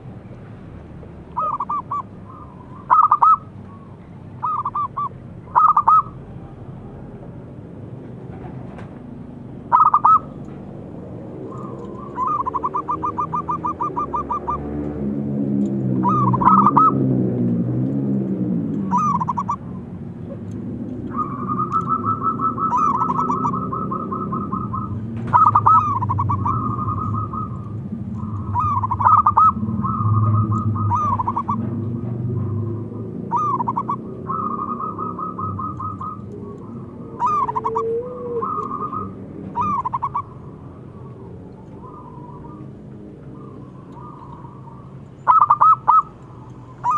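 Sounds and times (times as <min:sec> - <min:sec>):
dove cooing and trilling: 0:01.3 - 0:06.3, 0:09.7 - 0:15.1, 0:15.8 - 0:17.3, 0:18.8 - 0:46.9.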